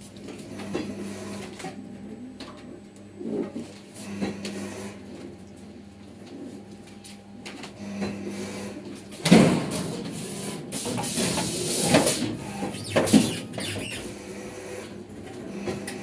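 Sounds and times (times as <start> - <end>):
machine low hum: 0.0 - 16.0.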